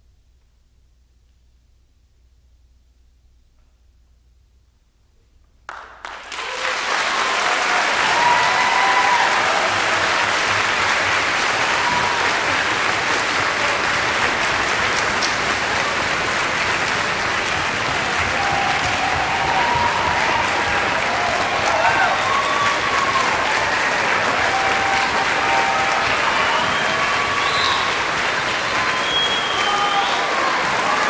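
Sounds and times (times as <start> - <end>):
audience applause: 5.7 - 31.0.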